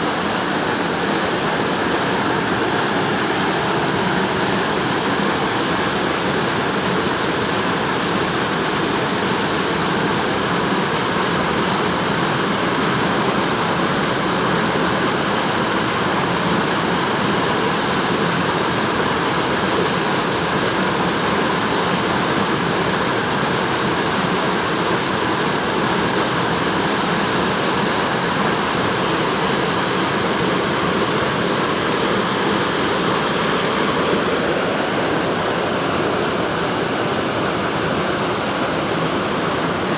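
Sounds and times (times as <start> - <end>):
water rushing through canyon: 0.0 - 39.9.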